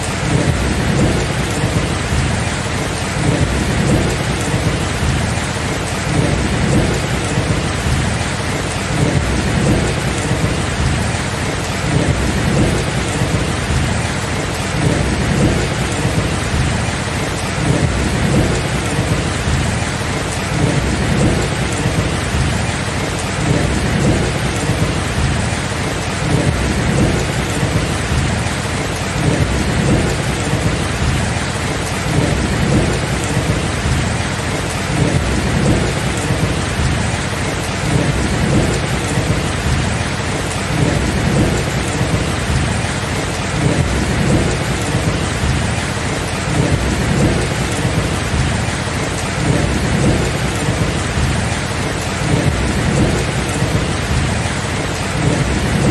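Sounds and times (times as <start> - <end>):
steady rain: 0.0 - 55.9
low rolling thunder: 0.1 - 55.9.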